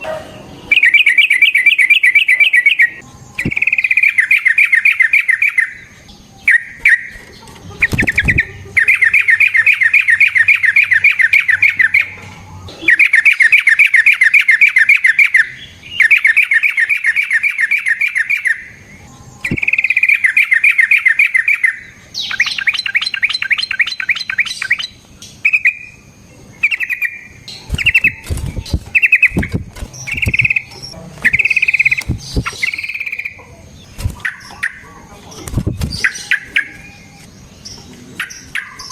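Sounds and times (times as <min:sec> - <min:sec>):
bird singing fast trills: 0:00.0 - 0:38.9.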